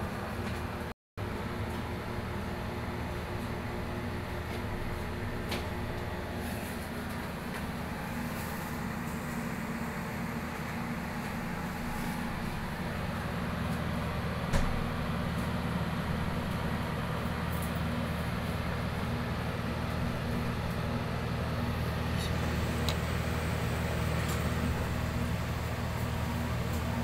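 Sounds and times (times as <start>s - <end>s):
ice maker humming: 0.1s - 27.0s.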